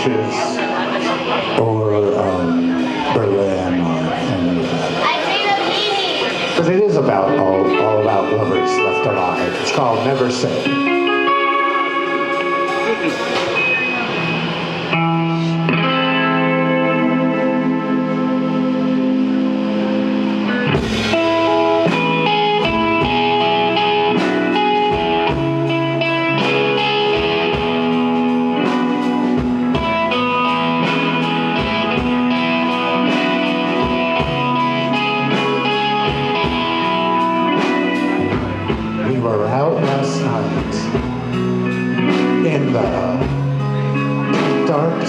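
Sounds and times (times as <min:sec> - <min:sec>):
electric guitar: 0:00.0 - 0:45.0
drum kit beat: 0:02.3 - 0:45.0.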